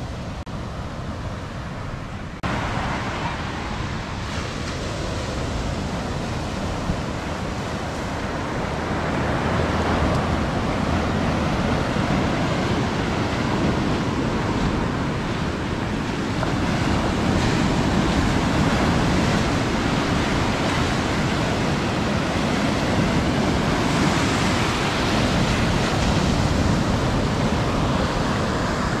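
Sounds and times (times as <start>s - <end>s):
waves washing over sand: 0.0s - 29.0s.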